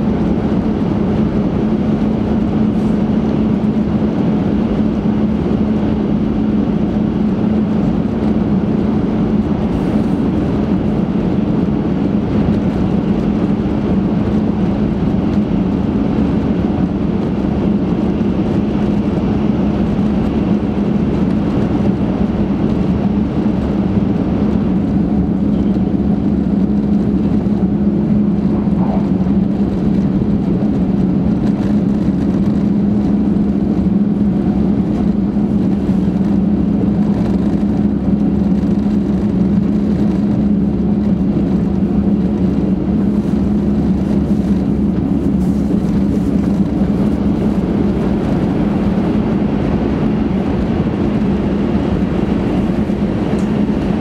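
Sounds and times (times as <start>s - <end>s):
low steady hum: 0.0s - 54.0s
train running at speed in tunnel: 0.0s - 54.0s.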